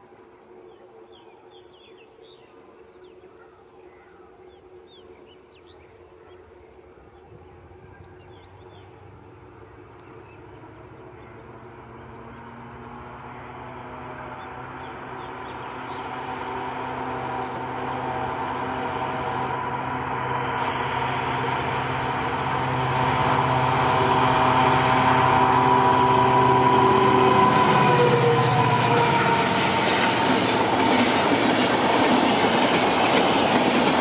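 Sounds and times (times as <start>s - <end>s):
diesel locomotive engine drone: 5.0s - 34.0s.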